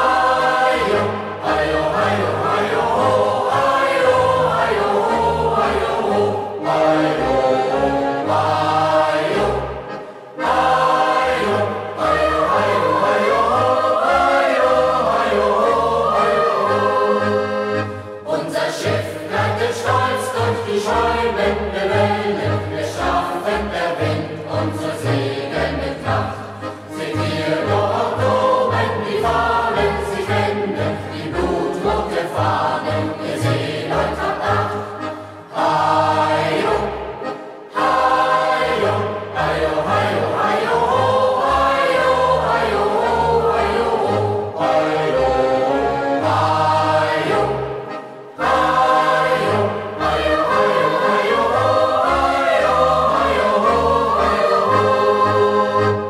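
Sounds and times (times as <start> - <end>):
youth choir singing: 0.0 - 56.0.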